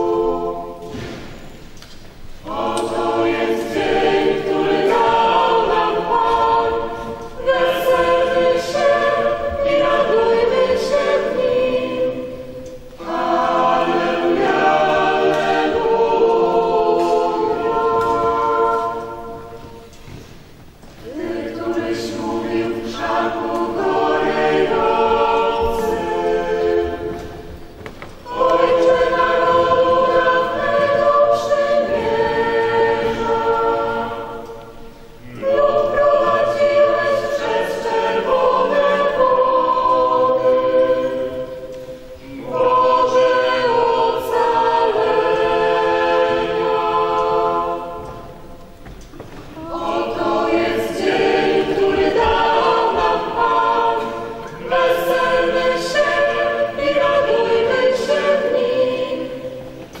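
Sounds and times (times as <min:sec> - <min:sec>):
group singing a hymn: 0:00.0 - 1:00.0.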